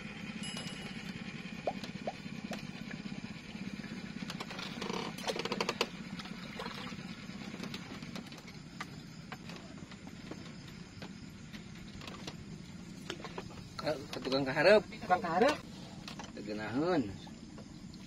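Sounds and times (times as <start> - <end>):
small engine drone: 0.0 - 18.0.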